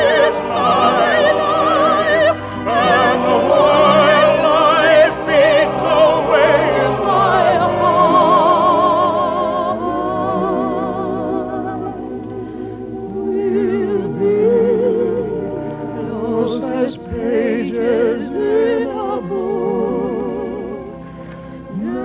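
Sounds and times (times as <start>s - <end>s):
orchestra music: 0.0s - 22.0s.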